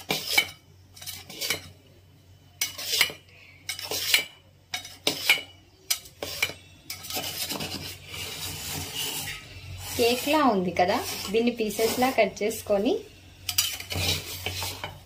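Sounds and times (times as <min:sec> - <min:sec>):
knife scraping a steel pot: 0:00.0 - 0:01.8, 0:02.6 - 0:12.7, 0:13.3 - 0:15.0.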